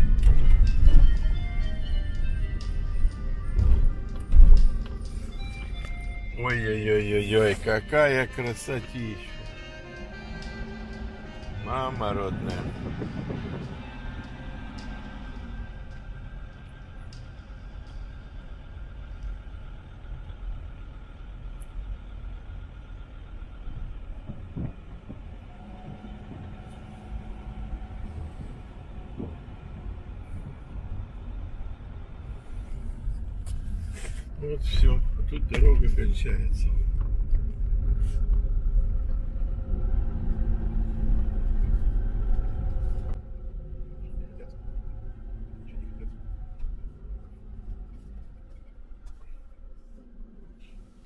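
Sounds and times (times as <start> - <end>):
tyre and road rumble: 0.0 - 51.0.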